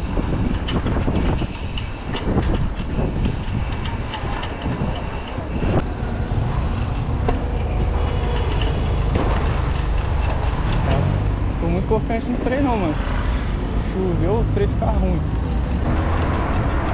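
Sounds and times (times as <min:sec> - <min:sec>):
bike clicks and rattles: 0:00.0 - 0:13.6, 0:15.0 - 0:16.9
road rumble: 0:00.0 - 0:16.9
wind on microphone: 0:00.0 - 0:16.9.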